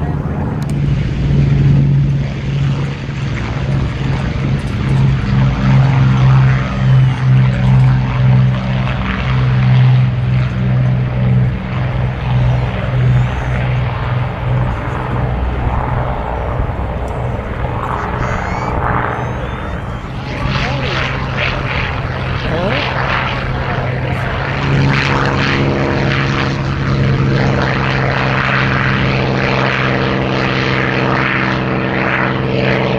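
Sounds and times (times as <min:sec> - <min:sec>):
propeller aircraft droning: 0:00.0 - 0:32.9.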